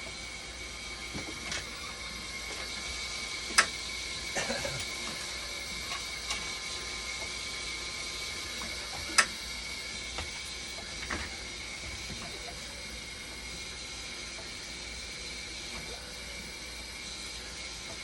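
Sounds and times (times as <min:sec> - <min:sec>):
steady high-pitched tone: 0:00.0 - 0:17.9.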